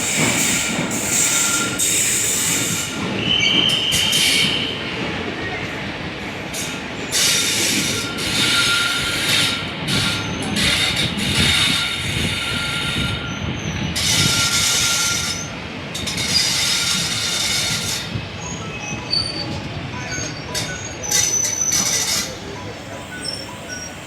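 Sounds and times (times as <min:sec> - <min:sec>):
train coach rumbling on track: 0:00.0 - 0:24.0
wheels screeching on rails: 0:00.0 - 0:24.0.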